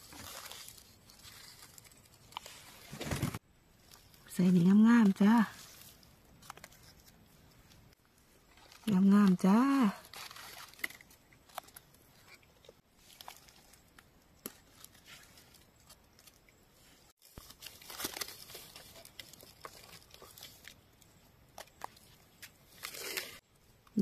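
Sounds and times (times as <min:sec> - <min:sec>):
dry leaves rustling and crackling: 0:00.0 - 0:07.7, 0:08.3 - 0:12.3, 0:13.0 - 0:20.8, 0:21.6 - 0:23.4.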